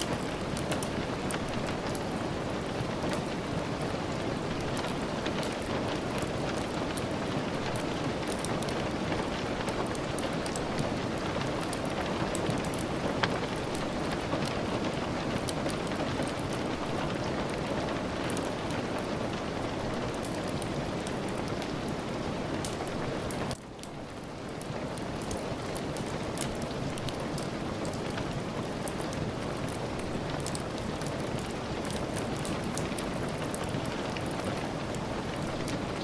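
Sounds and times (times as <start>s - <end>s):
steady rain: 0.0s - 36.0s
wood fire crackling: 0.0s - 36.0s.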